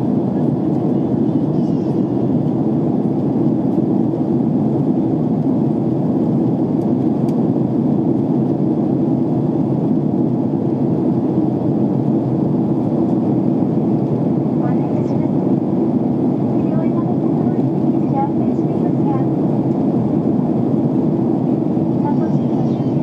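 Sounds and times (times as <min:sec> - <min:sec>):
airliner cabin engine noise: 0:00.0 - 0:23.0.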